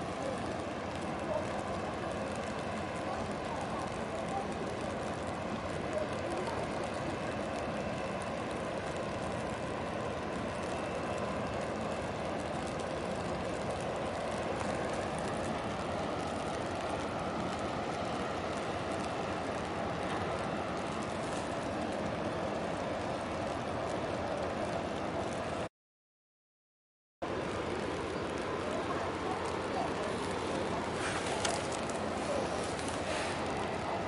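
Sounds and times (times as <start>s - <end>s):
ship engine rumble and hum: 0.0s - 25.7s, 27.2s - 34.0s.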